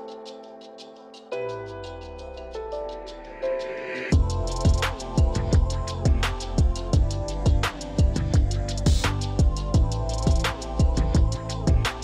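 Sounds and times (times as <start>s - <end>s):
hip-hop beat: 0.0s - 12.0s.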